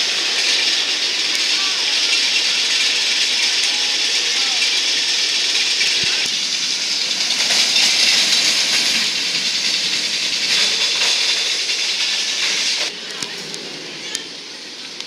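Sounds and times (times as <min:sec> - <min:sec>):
roller coaster wheels hissing on rails: 0:00.0 - 0:15.0.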